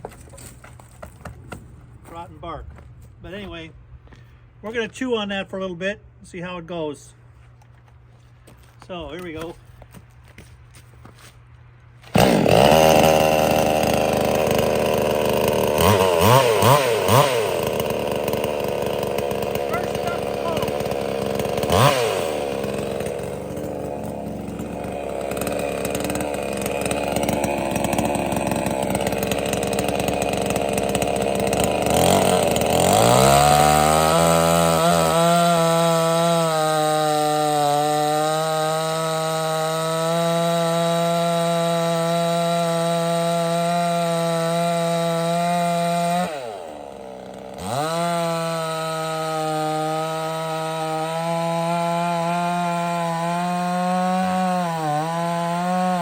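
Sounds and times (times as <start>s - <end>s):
chainsaw cutting log: 9.0s - 10.4s, 11.1s - 56.0s.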